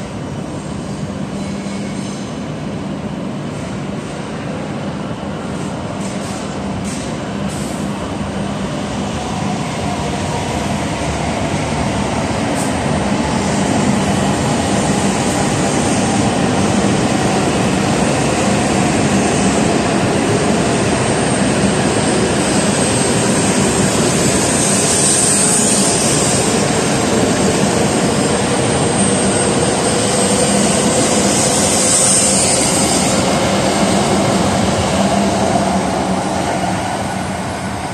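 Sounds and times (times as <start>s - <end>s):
train rushing past: 0.0s - 37.9s.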